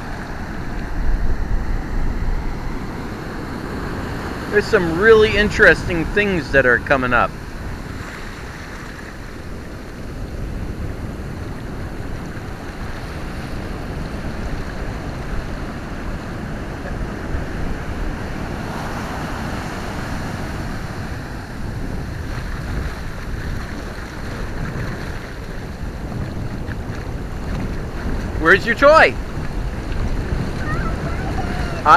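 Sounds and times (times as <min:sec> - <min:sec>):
ocean surf breaking: 0:00.0 - 0:31.9
wind buffeting microphone: 0:00.0 - 0:31.9.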